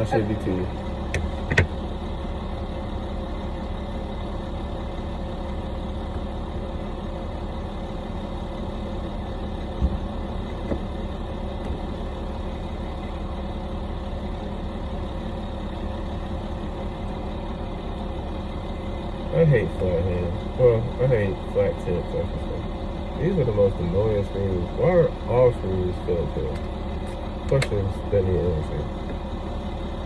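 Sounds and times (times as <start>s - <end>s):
steady mechanical drone: 0.0s - 30.0s.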